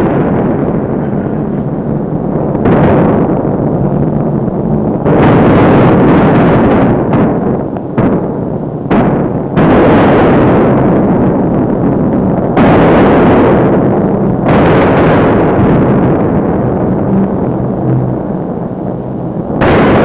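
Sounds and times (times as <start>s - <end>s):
heavy explosions rumbling: 0.0s - 20.0s
steady low drone: 0.0s - 20.0s.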